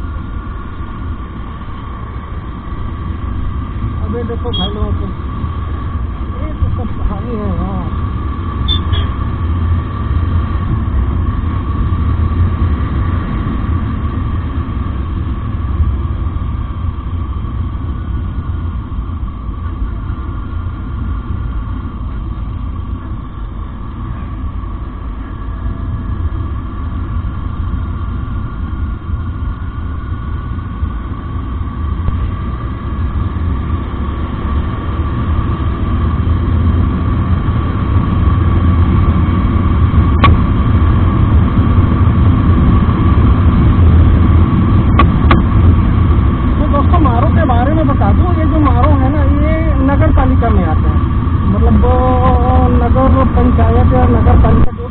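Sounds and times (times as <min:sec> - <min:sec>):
motorcycle engine rumble: 0:00.0 - 0:54.9
thin steady whine: 0:00.0 - 0:54.9.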